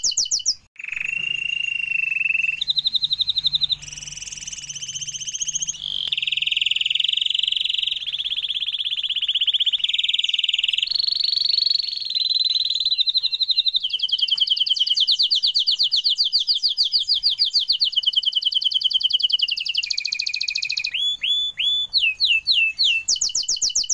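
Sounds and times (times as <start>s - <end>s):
bird rising whistles: 0.0s - 23.9s
songbird trilling: 0.0s - 23.9s.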